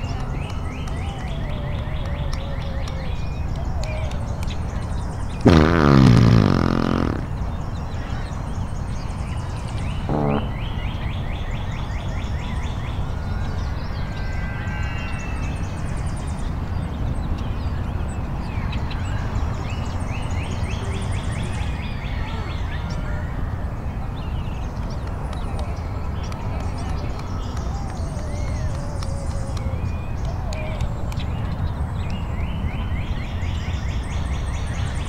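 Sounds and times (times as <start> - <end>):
birds chirping and trilling: 0.0 - 35.0.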